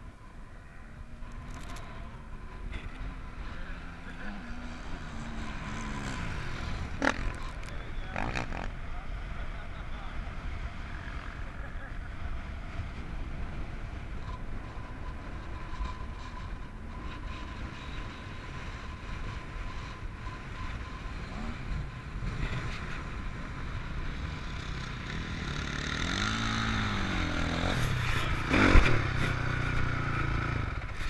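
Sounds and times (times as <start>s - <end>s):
off-road vehicle engine rumbling: 0.0s - 31.0s.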